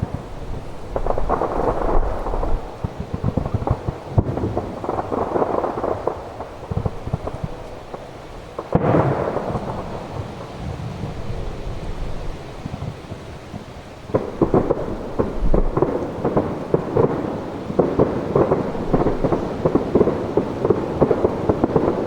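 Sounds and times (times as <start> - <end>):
fireworks booming and crackling: 0.0 - 22.0
fireworks sharp bangs: 0.0 - 22.0.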